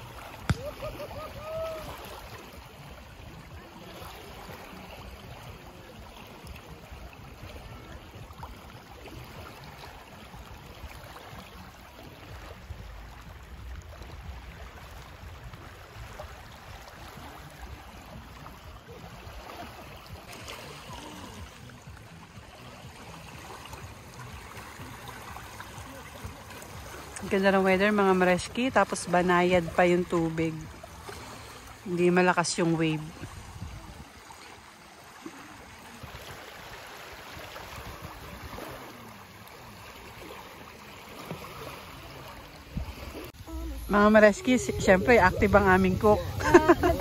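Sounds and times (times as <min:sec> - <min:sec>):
lake water lapping: 0:00.0 - 0:47.0.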